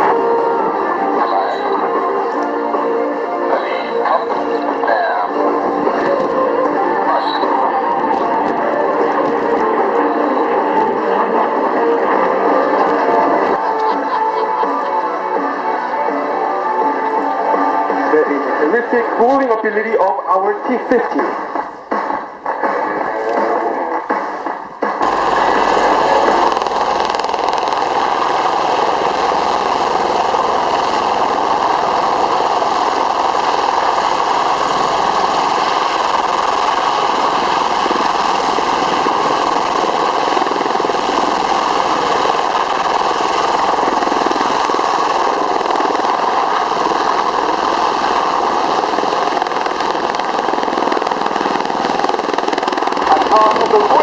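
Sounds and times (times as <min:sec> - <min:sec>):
aircraft engine noise: 0:00.0 - 0:54.0.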